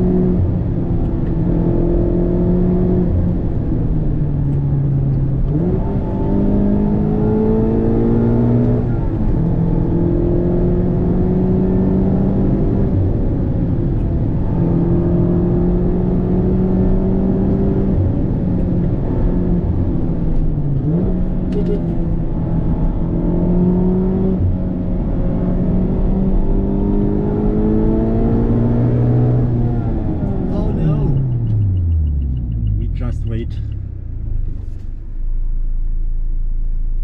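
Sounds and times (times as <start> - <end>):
car engine revving: 0.0 - 36.1.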